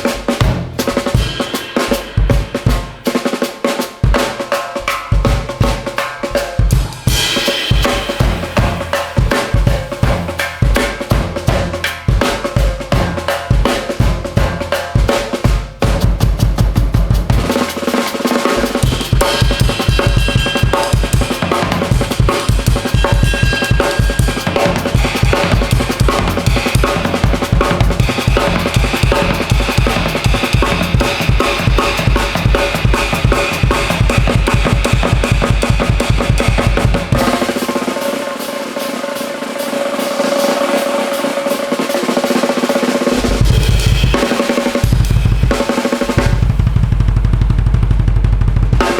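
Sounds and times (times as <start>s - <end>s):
driving bass drum: 0.0s - 48.9s
drum kit solo: 0.0s - 48.9s.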